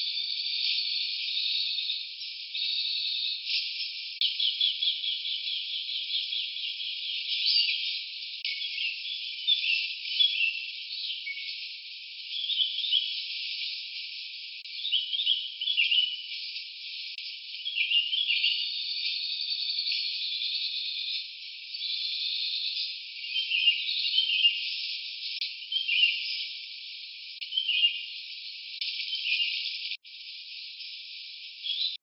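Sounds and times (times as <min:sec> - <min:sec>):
bird chirping phrases: 0:00.0 - 0:32.0.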